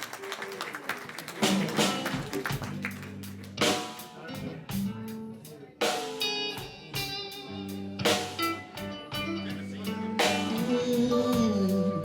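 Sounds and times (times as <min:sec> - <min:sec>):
bluesy electric guitar: 0:01.4 - 0:12.0.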